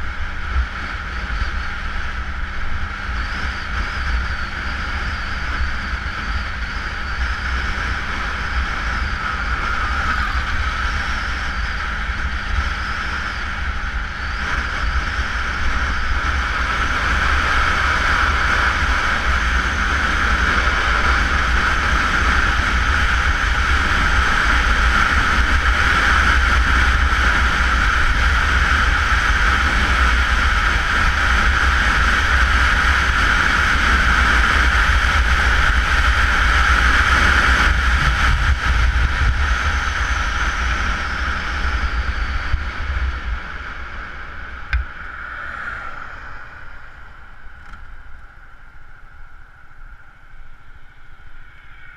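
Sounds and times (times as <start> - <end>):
motorcycle engine rumble: 0.0 - 51.9
wind noise rushing: 1.8 - 48.1.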